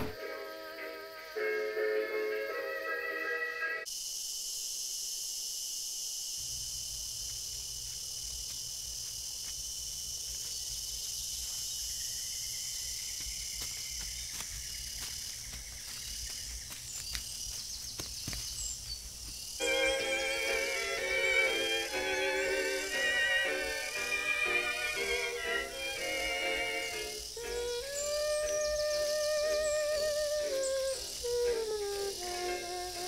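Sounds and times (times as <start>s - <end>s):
crickets and insects chirping: 0.0s - 33.0s.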